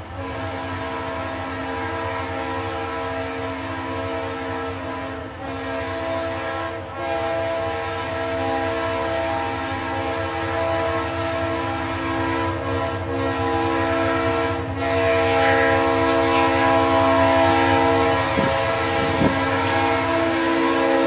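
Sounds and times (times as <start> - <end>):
distant locomotive air horn: 0.0 - 21.0
train rumbling: 0.0 - 21.0.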